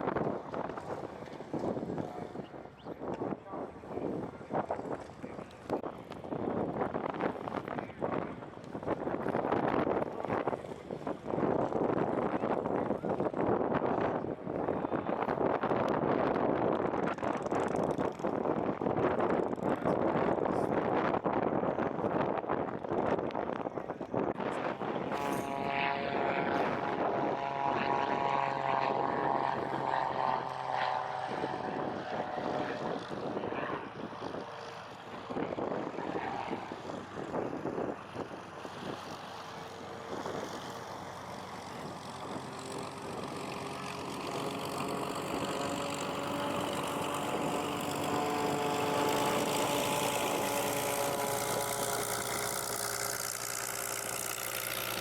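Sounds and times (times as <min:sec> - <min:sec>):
gusty wind noise: 0:00.0 - 0:55.0
propeller airplane engine droning: 0:00.0 - 0:55.0.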